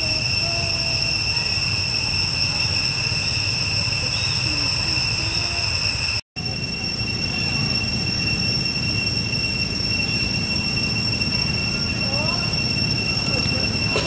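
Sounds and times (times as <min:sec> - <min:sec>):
insect chorus whine: 0:00.0 - 0:14.0.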